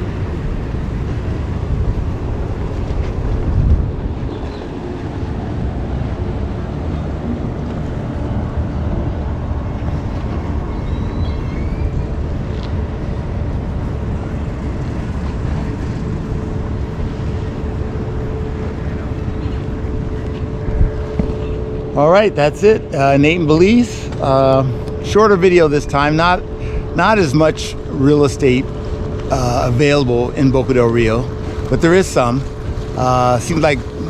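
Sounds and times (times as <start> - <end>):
outboard motor humming: 0.0 - 34.0
wind on microphone: 0.0 - 34.0.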